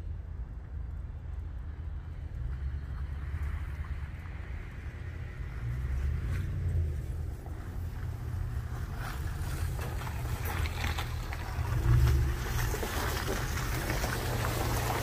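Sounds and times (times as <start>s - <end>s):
tires crackling on slush and gravel: 0.0s - 15.0s
truck engine rumble: 0.0s - 15.0s.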